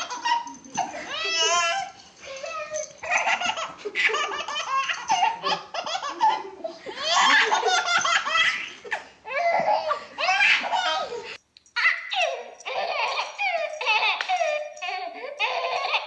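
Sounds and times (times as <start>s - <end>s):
baby laughing: 0.0s - 11.2s, 11.8s - 16.0s.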